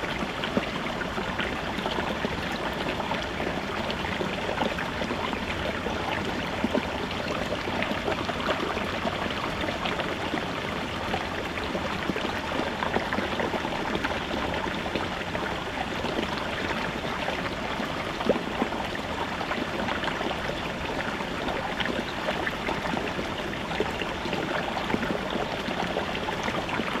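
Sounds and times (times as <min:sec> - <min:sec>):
brook babbling over rocks: 0:00.0 - 0:27.0.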